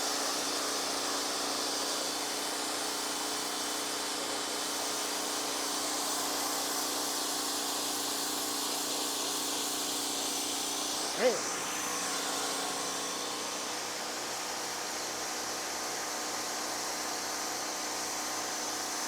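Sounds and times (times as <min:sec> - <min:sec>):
pressure washer motor hum: 0:00.0 - 0:19.0.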